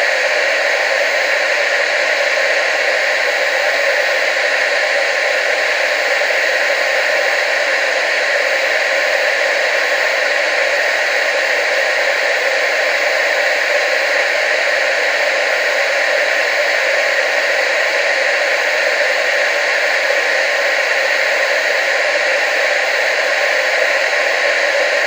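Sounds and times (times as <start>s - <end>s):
tv static hiss: 0.0s - 25.0s.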